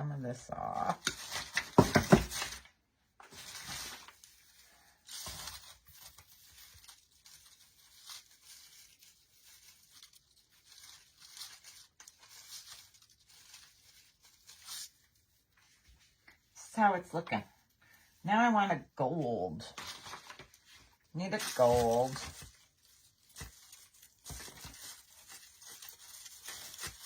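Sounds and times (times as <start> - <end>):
rustling and crinkling decorations: 0.0 - 27.0.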